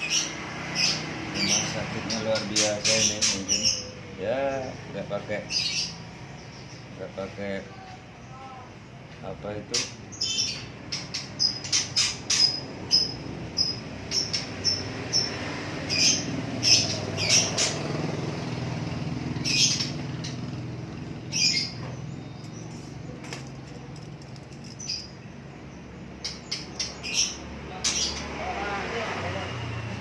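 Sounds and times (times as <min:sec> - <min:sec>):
small bird chirping and squawking: 0:00.0 - 0:07.0, 0:09.7 - 0:28.7.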